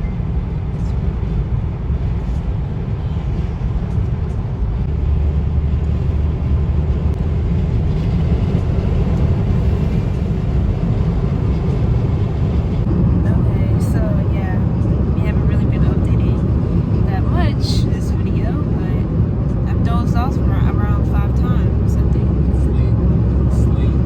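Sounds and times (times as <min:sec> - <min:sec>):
car road rumble: 0:00.0 - 0:24.0.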